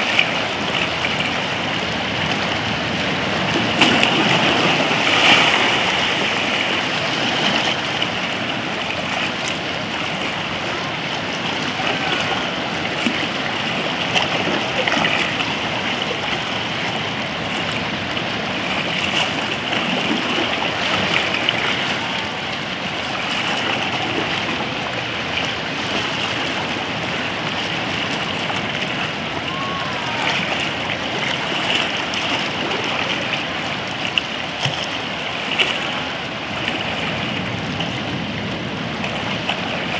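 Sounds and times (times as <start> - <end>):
small waves lapping around rocks: 0.0 - 39.9
water splashes: 0.0 - 39.9.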